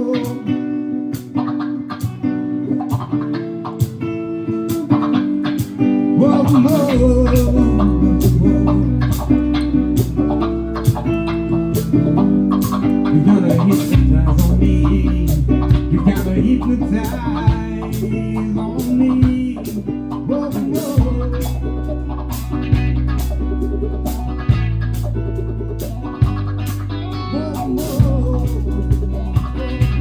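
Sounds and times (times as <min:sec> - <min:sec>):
guitar-led song with beat: 0:00.0 - 0:30.0.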